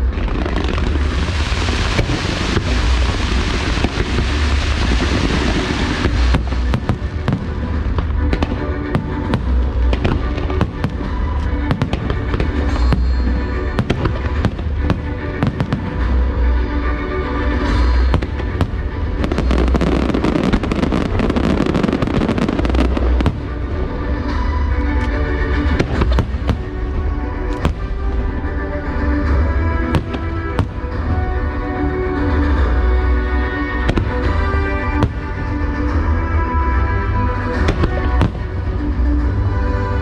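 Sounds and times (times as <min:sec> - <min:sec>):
fireworks booming and crackling: 0:00.0 - 0:16.6, 0:17.6 - 0:32.8, 0:33.4 - 0:40.0
show music: 0:00.0 - 0:40.0.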